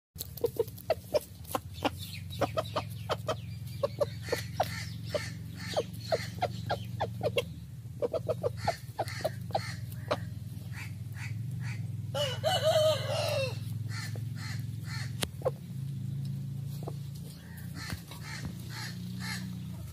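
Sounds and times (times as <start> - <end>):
chickens clucking: 0.2 - 19.9
steady low hum: 0.2 - 19.9.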